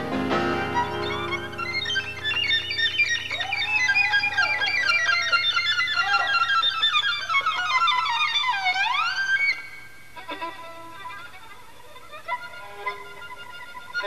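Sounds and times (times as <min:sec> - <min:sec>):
violin playing fast runs: 0:00.0 - 0:14.0.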